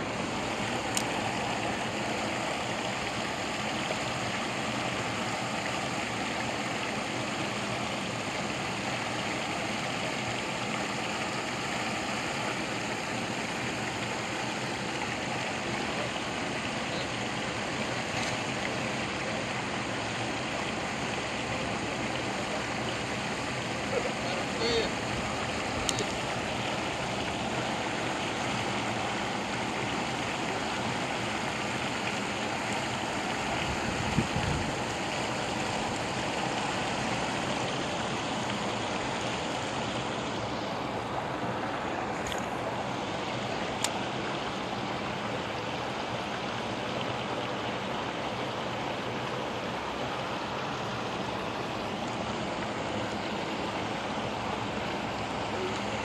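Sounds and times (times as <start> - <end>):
water pouring over a dam: 0.0 - 56.0.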